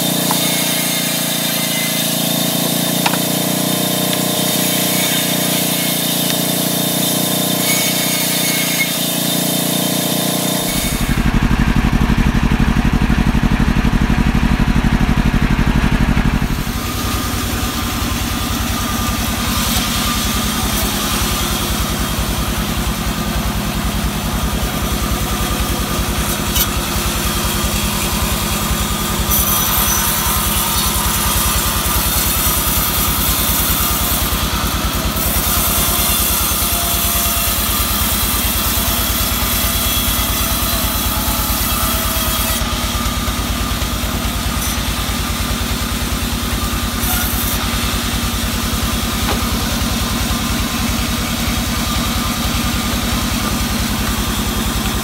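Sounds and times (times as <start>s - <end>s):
band sawmill droning: 0.0s - 55.0s.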